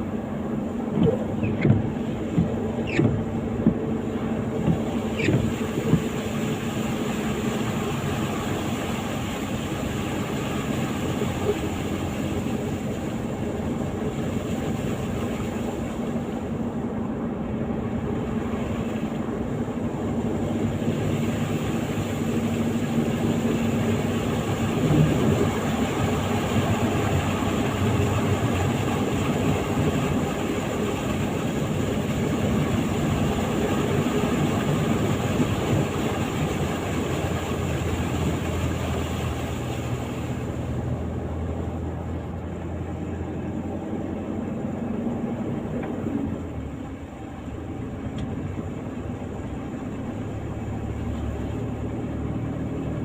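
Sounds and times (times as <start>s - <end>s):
road and wind noise: 0.0s - 53.0s
vehicle engine hum: 0.0s - 53.0s.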